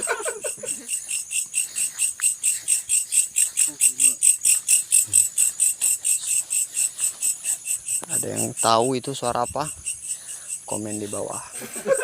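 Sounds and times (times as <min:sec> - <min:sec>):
high-pitched insect chirping: 0:00.0 - 0:12.0.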